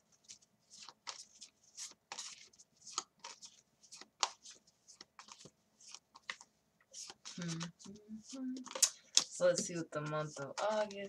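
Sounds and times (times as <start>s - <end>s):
cards being shuffled: 0.2s - 11.0s.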